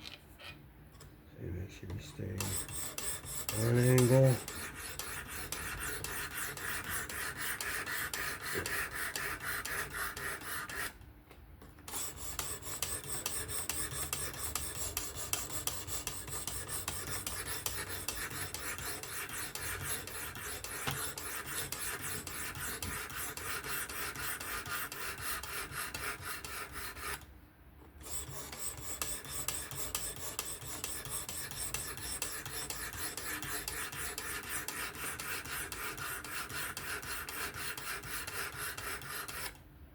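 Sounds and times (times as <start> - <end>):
knife rasping on sharpening stone: 2.4 - 10.9, 12.0 - 27.2, 28.1 - 39.5.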